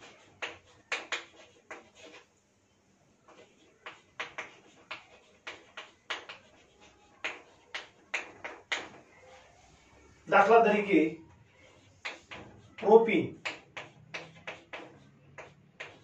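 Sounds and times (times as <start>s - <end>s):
chalk scratching on chalkboard: 0.0s - 2.3s, 3.2s - 16.0s.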